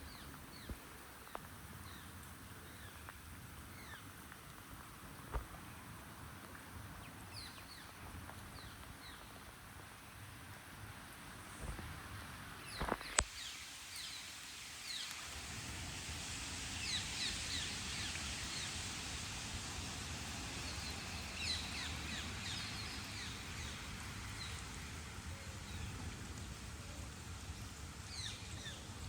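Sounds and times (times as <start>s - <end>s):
rain hiss: 0.0s - 29.0s.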